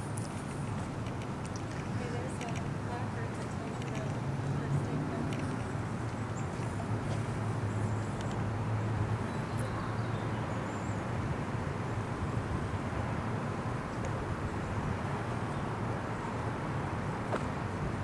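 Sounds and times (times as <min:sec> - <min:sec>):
city background rumble: 0:00.0 - 0:18.0.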